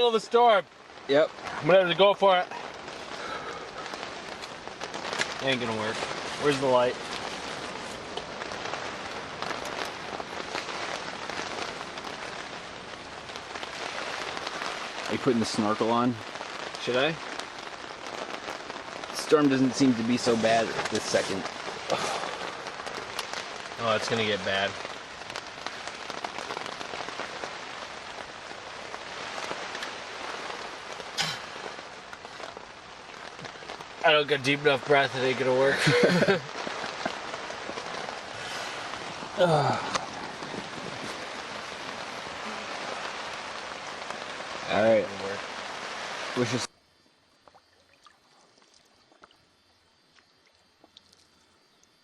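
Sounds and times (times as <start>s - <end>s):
raindrops striking close by: 0.0s - 52.0s
steady rain falling: 0.0s - 52.0s.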